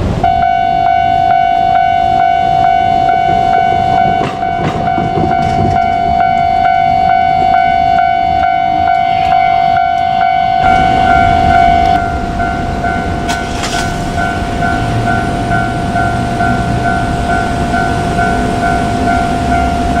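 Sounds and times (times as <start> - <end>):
diesel railcar rumble: 0.0 - 20.0
level crossing bell ringing: 0.3 - 20.0
train clanks: 1.2 - 20.0.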